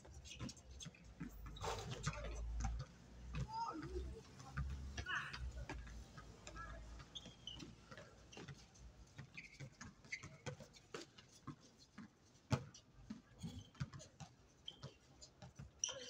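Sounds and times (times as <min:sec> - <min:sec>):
sneaker squeaks: 0:00.1 - 0:16.0.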